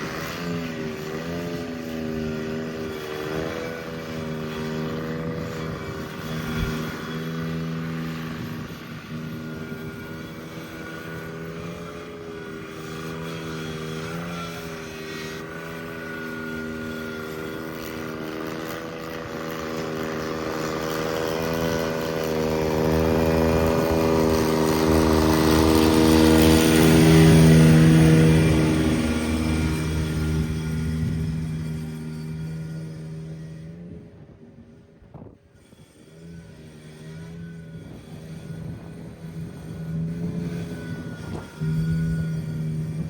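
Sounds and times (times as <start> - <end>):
garden tractor engine running: 0.0 - 34.6, 36.1 - 43.0.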